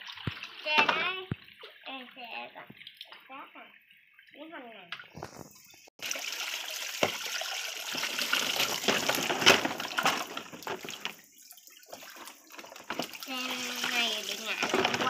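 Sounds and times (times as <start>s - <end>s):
water sloshing: 0.0s - 15.0s
water splashing and streaming: 0.0s - 15.0s.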